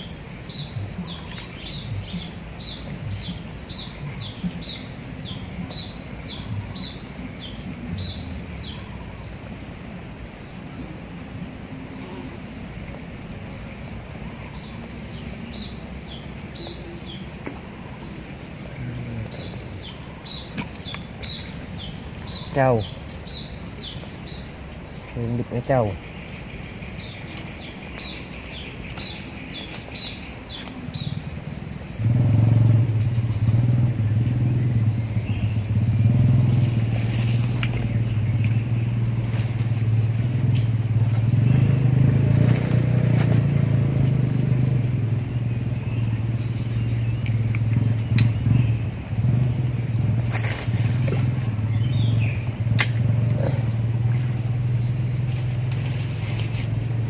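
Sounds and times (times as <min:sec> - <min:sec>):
bird chirping: 0:00.0 - 0:57.0
low engine hum: 0:00.0 - 0:57.0.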